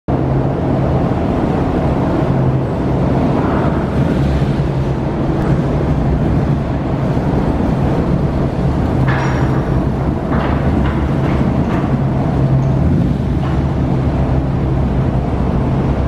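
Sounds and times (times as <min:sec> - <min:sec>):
ferry engines humming: 0:00.1 - 0:16.0.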